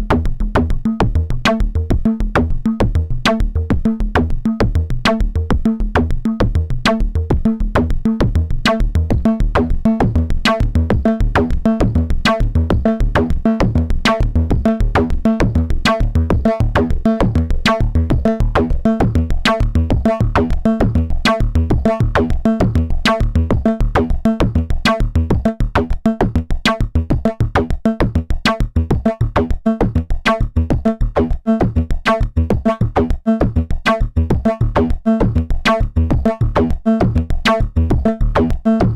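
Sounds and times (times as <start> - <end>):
synthesizer pulsing low notes: 0.0 - 38.9.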